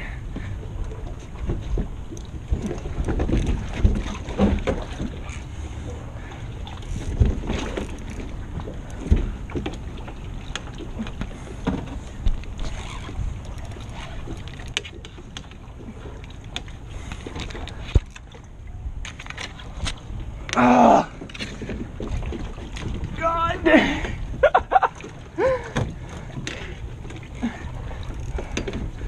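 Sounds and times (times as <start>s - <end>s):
water sounds: 0.0s - 29.0s.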